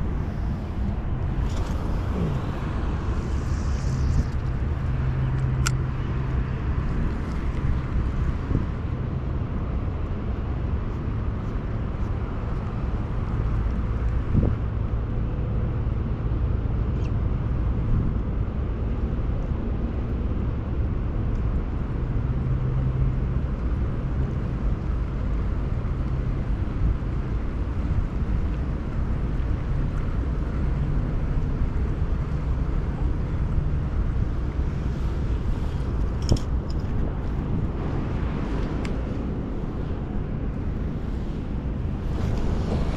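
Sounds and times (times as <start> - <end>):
low hum: 0.0 - 42.9
outdoor rumble by water: 0.0 - 42.9.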